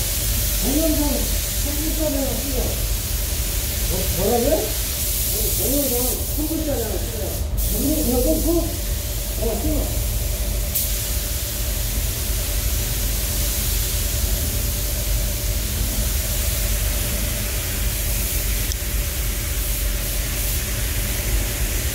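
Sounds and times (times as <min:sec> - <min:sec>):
air rushing hiss: 0:00.0 - 0:21.9.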